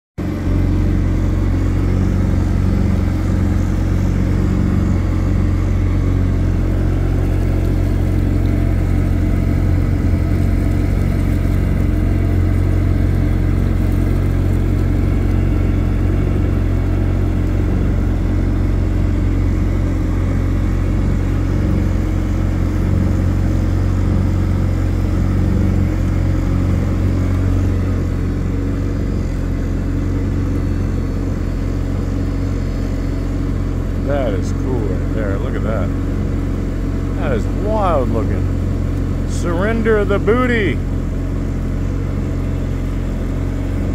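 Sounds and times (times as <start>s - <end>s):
boat engine running: 0.2s - 43.9s.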